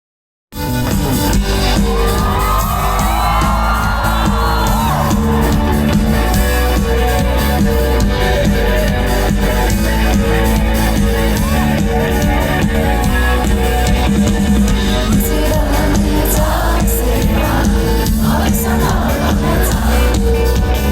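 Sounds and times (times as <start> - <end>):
live band playing: 0.6 - 20.9
audience cheering and whooping: 1.5 - 9.3, 10.0 - 20.6.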